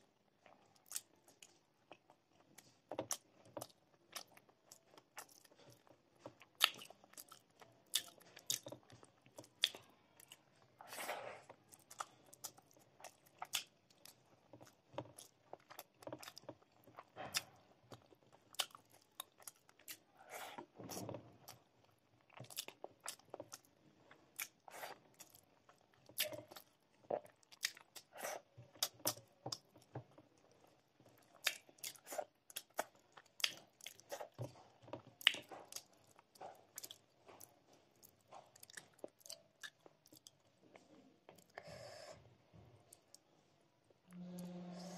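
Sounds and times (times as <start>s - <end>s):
close chewing: 0.4s - 41.6s.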